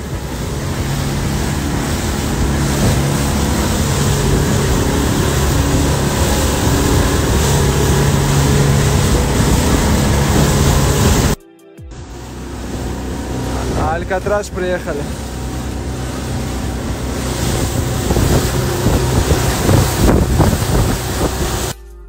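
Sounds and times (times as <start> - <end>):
rushing water: 0.0 - 11.4, 12.1 - 21.8
wind on microphone: 0.0 - 11.4, 12.0 - 21.8
boat engine humming: 0.0 - 22.0.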